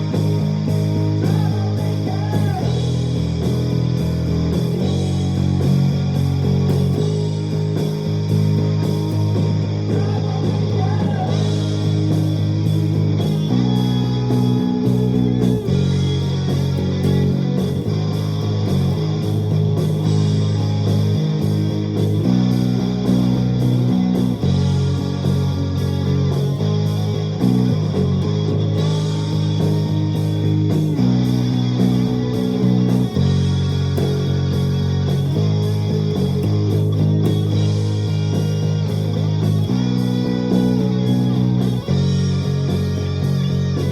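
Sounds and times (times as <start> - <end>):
backing track with steady beat: 0.0 - 43.9
electric bass playing: 0.0 - 43.9.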